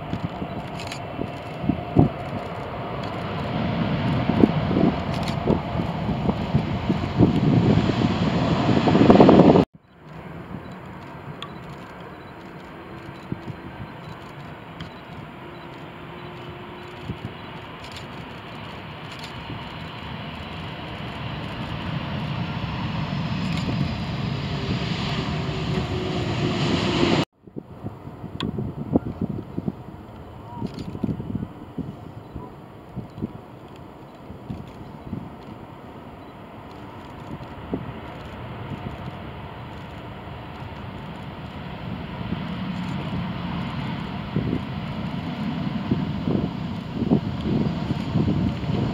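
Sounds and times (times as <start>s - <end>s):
jet airliner landing: 0.0s - 48.9s
wind buffeting microphone: 0.0s - 48.9s.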